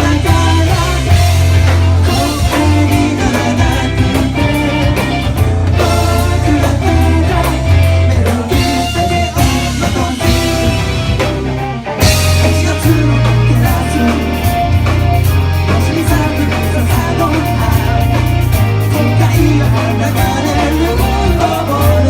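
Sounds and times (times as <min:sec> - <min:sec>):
person singing: 0:00.0 - 0:11.2, 0:12.2 - 0:15.0, 0:15.6 - 0:22.0
bass guitar: 0:00.0 - 0:22.0
drum kit: 0:00.0 - 0:22.0
electric guitar: 0:00.0 - 0:22.0.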